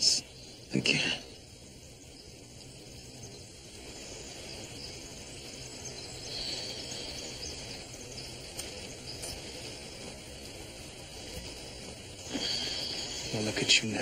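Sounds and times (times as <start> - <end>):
faint bird chirps: 0.0 - 14.0
insects hissing: 0.0 - 14.0.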